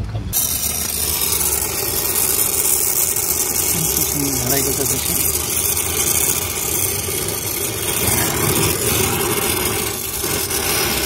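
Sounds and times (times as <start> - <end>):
torch flame hissing: 0.3 - 11.0.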